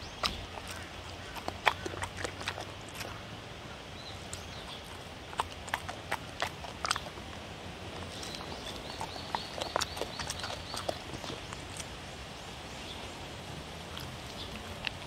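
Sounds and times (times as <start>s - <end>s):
dog chewing food: 0.0s - 3.2s, 4.1s - 12.0s, 13.8s - 15.0s.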